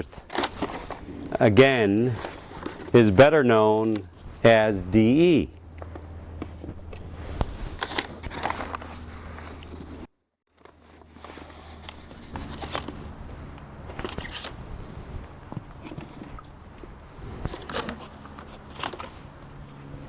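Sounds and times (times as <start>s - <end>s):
crackling rustling handling noise: 0.0s - 4.4s, 5.6s - 20.0s
steady low hum: 0.0s - 20.0s.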